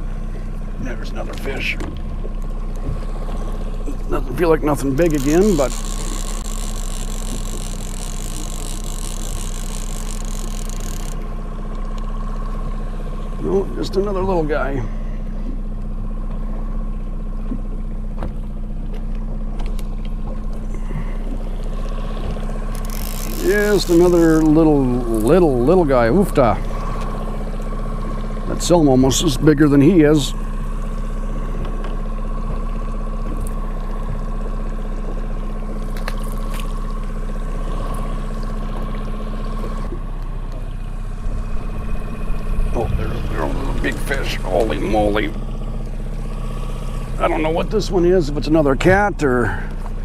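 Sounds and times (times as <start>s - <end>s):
boat motor humming: 0.0s - 50.0s
water trickling against hull: 0.1s - 13.4s, 15.2s - 29.6s, 30.4s - 47.5s.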